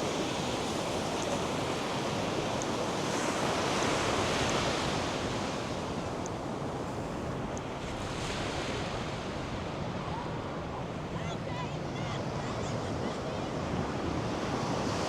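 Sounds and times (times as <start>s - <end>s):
surf washing onto sandy beach: 0.0s - 15.0s.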